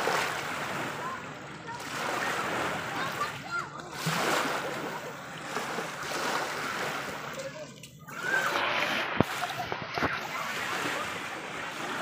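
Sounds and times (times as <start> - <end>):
waves lapping on pebble shore: 0.0 - 12.0.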